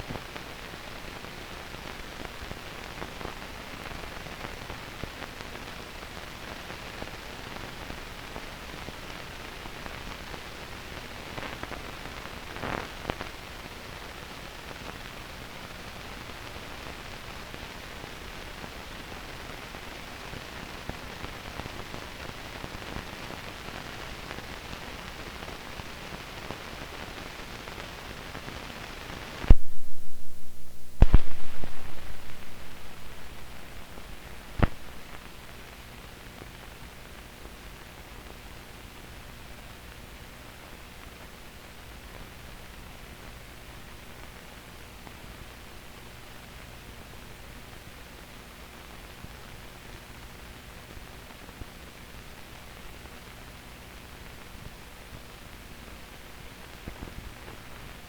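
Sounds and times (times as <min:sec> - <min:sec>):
film soundtrack hiss and crackle: 0:00.0 - 0:58.0.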